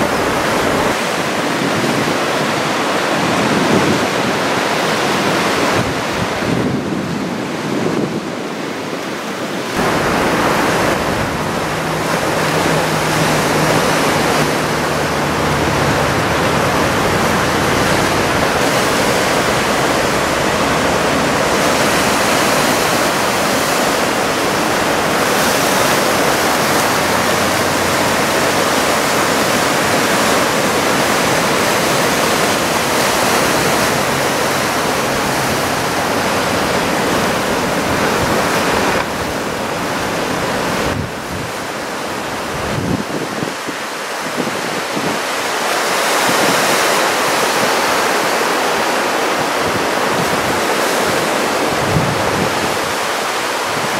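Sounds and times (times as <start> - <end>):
ocean surf breaking: 0.0 - 53.9.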